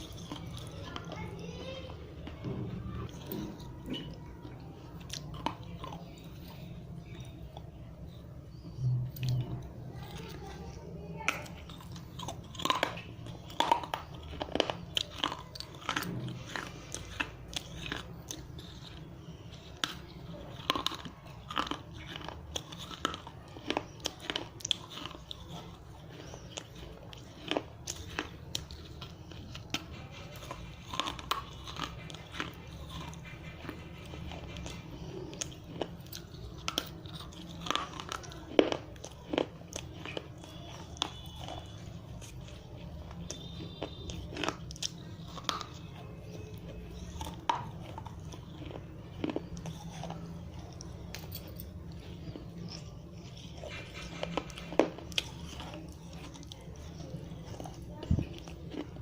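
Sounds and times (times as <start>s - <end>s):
clay being chewed with crunches: 0.0s - 59.0s.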